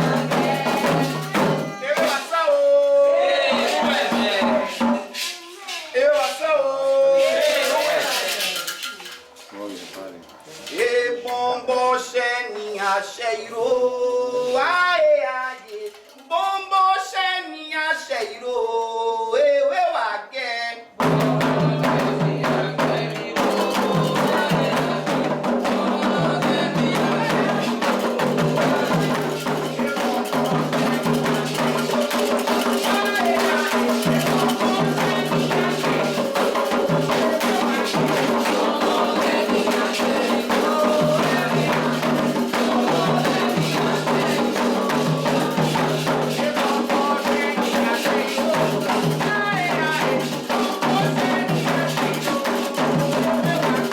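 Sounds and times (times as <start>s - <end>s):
hand drums and percussion: 0.0s - 11.0s, 21.0s - 53.9s
solo voice singing chant: 10.7s - 53.9s.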